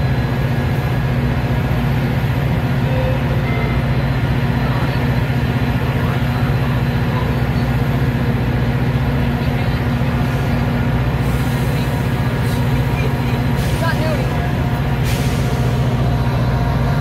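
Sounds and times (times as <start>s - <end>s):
train low mechanical drone: 0.0s - 17.0s.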